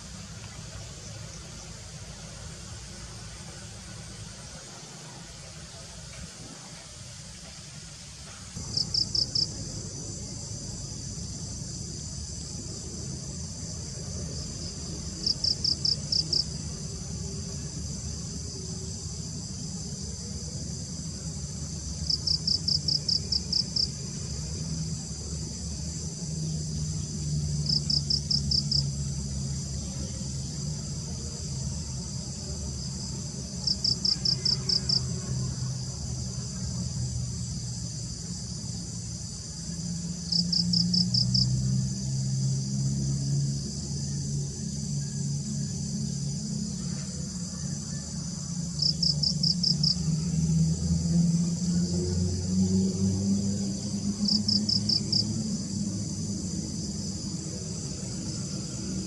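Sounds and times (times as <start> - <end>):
insect trill: 0.0 - 59.0
insects buzzing chorus: 0.0 - 59.0.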